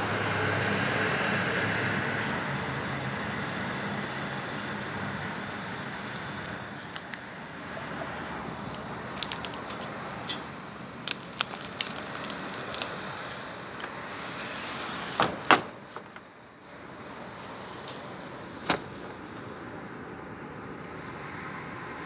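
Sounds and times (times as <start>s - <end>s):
road traffic hum: 0.0s - 22.0s.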